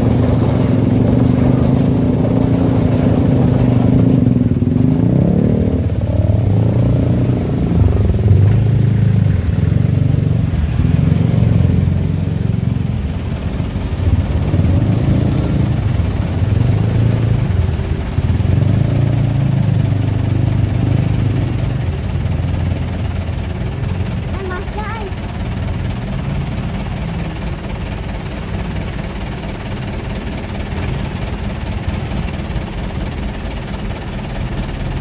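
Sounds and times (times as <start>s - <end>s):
motorcycle engine revving: 0.0s - 33.1s
car engines idling and revving: 0.0s - 35.0s.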